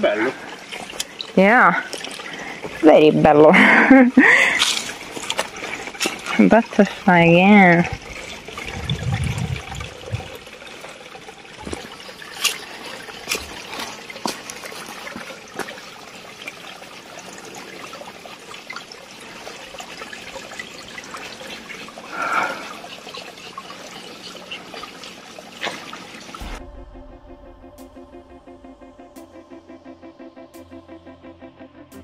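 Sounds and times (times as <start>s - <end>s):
water trickling over stones: 0.0s - 26.6s.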